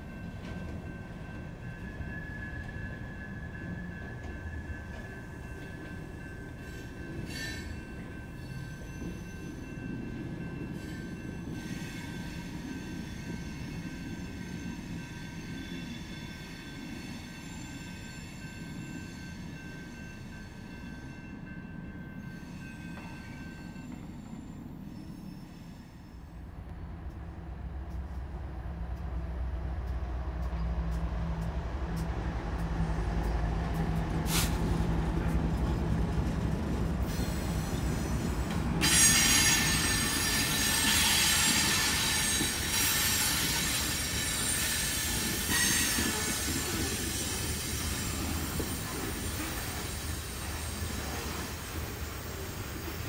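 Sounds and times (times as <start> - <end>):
steel wheels squealing on rails: 0.0 - 26.6, 30.4 - 53.0
diesel locomotive engine drone: 0.0 - 53.0.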